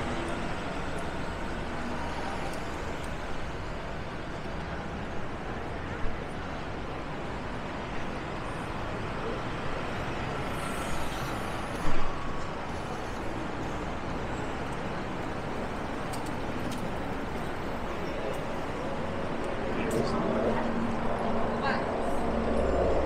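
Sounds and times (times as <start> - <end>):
buses and cars passing: 0.0 - 23.0.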